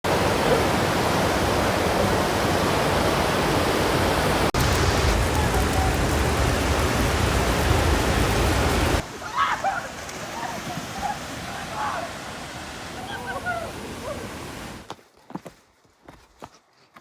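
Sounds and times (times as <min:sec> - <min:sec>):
rushing flowing water: 0:00.0 - 0:14.9.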